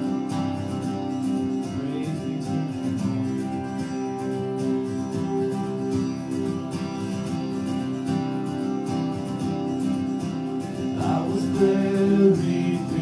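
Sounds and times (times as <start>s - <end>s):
acoustic guitar strumming chords: 0.0s - 13.0s
sustained tones: 0.0s - 13.0s.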